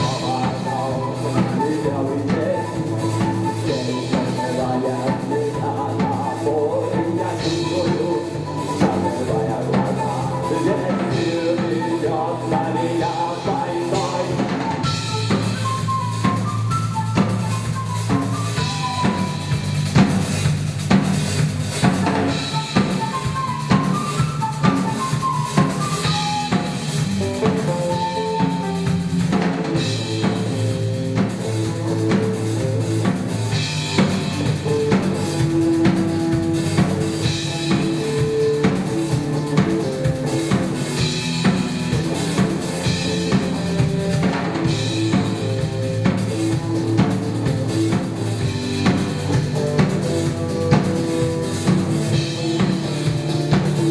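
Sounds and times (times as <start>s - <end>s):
drum kit beat: 0.0s - 53.9s
rock band playing live: 0.0s - 53.9s.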